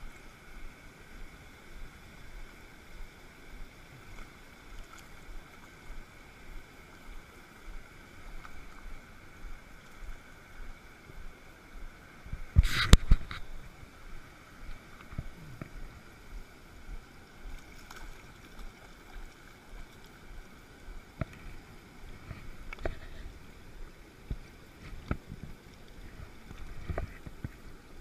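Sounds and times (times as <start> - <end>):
stream running over stones: 0.0 - 28.0.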